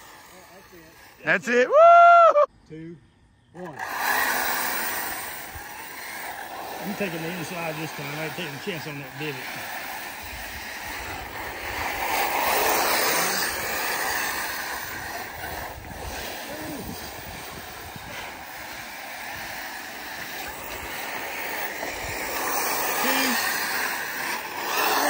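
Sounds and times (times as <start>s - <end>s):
electric motors whirring: 0.0s - 1.6s, 3.6s - 25.0s
tyres scrabbling through dirt: 3.6s - 25.0s.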